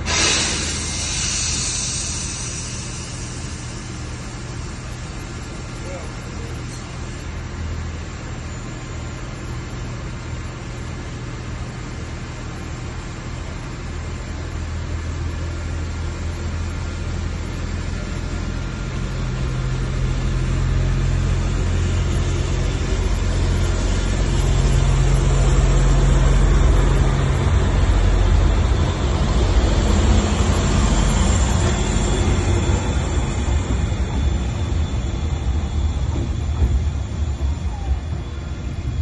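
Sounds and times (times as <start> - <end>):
diesel railcar passing: 0.0 - 39.0.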